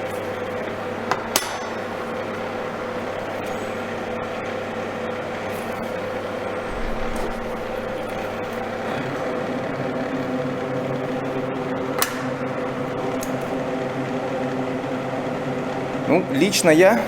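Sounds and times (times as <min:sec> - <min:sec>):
duct fan humming: 0:00.0 - 0:17.0.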